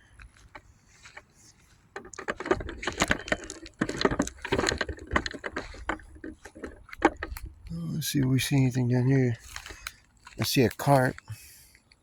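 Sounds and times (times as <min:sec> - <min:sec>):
footsteps crunching dry vegetation: 0:00.0 - 0:11.5.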